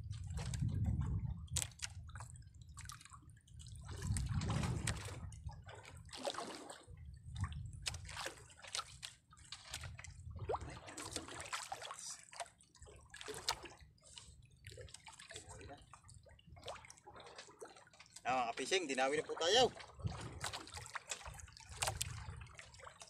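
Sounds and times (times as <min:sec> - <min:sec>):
small splashes and drips: 0:00.0 - 0:23.0
water lapping against boat hull: 0:00.0 - 0:23.0.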